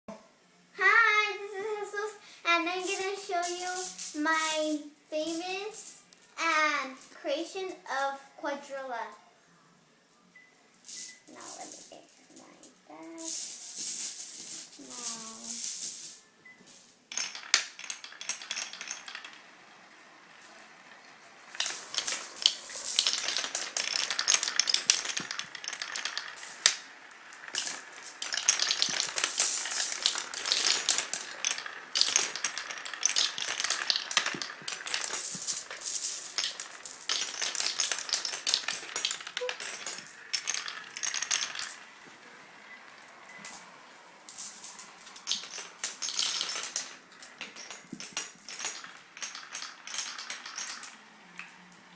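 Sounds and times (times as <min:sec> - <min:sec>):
marbles clattering down wooden run: 0:01.0 - 0:05.8, 0:10.9 - 0:16.1, 0:17.1 - 0:51.9.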